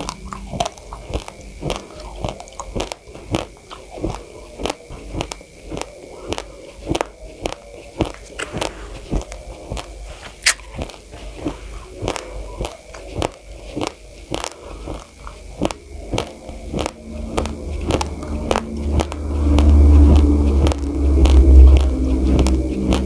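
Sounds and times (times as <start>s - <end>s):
rice grains crunched between teeth: 0.0s - 23.0s.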